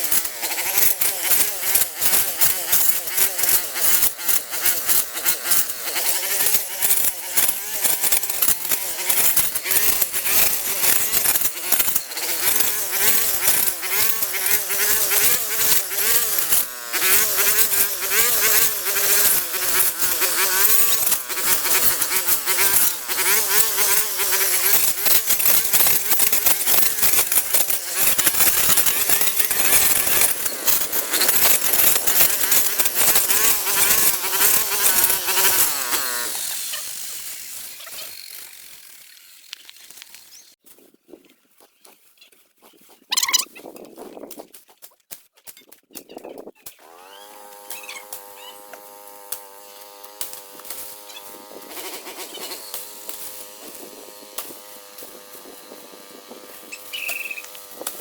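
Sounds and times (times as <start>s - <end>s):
brush cutter buzzing: 0.0s - 40.6s, 46.8s - 58.0s.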